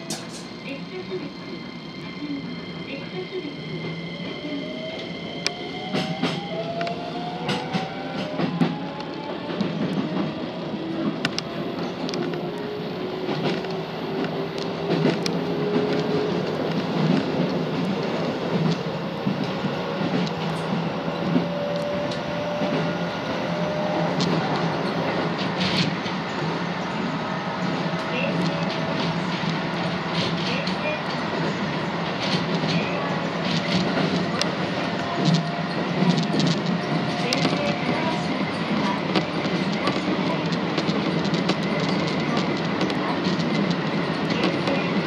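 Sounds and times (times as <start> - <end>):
train running rumble: 0.0 - 45.0.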